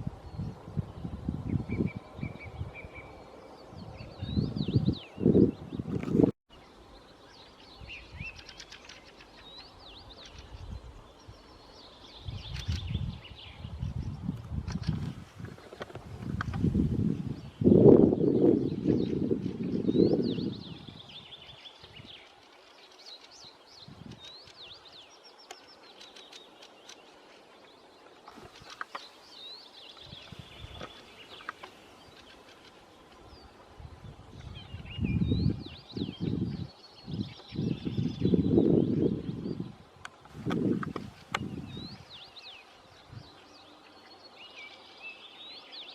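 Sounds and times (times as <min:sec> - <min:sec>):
wind rumble on microphone: 0:00.0 - 0:06.4, 0:07.6 - 0:27.0, 0:28.3 - 0:43.6
small birds chirping: 0:00.1 - 0:45.9.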